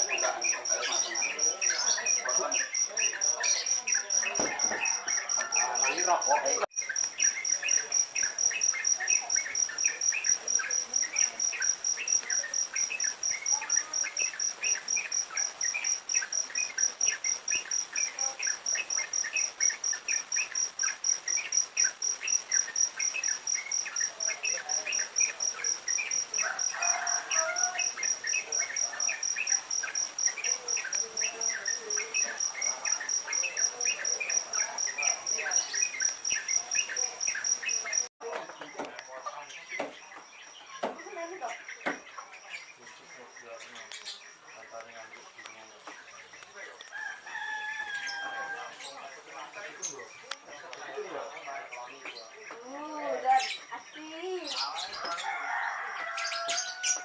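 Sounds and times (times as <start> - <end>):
cricket trilling: 0.0 - 57.0.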